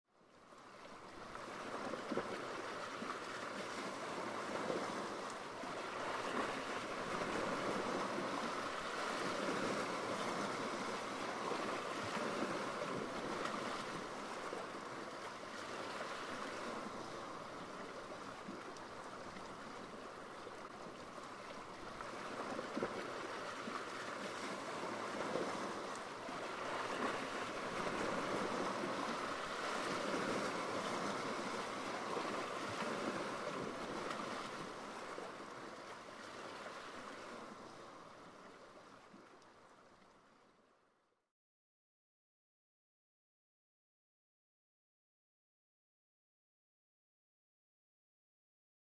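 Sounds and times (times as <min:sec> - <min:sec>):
sea waves breaking: 0:00.4 - 0:40.4.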